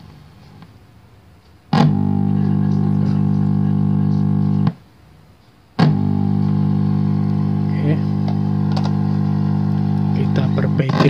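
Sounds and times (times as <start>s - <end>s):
television buzzing hum: 0.0s - 11.0s.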